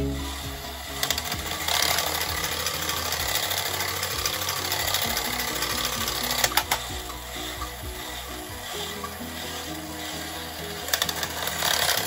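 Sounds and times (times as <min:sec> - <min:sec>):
toy robot motor whirring: 0:00.0 - 0:12.0.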